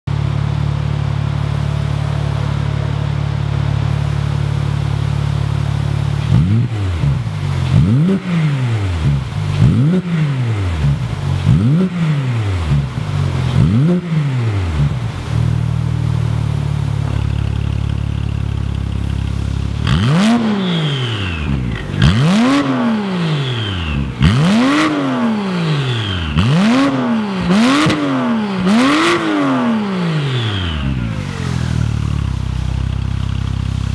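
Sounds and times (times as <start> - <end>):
car engine revving: 0.1 - 33.9
exhaust cracks: 0.1 - 33.9.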